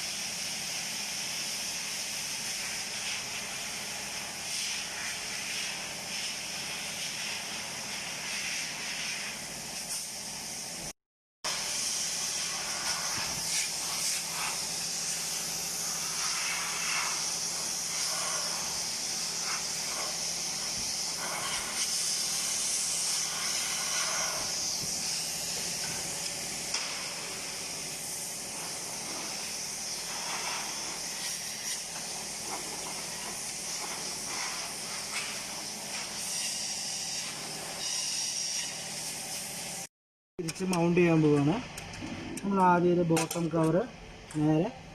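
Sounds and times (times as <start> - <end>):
compressed air hissing: 0.0 - 39.9.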